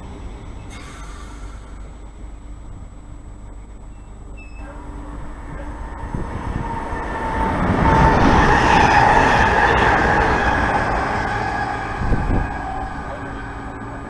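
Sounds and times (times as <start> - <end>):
train passing at speed: 0.0 - 4.0, 4.6 - 14.0.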